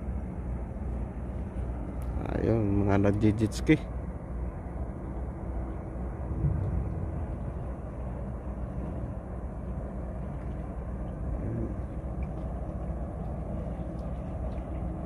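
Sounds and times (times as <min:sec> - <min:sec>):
watercraft engine rumble: 0:00.0 - 0:15.0.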